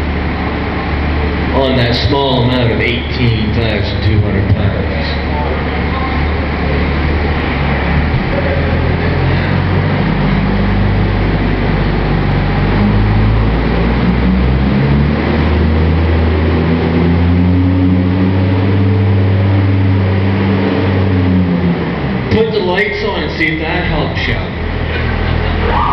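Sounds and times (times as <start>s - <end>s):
truck engine under heavy load: 0.0s - 25.9s.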